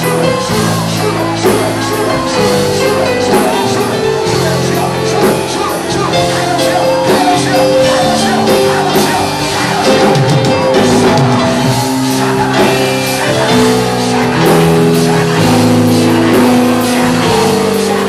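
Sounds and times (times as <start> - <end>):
rock-style worship music: 0.0 - 18.0.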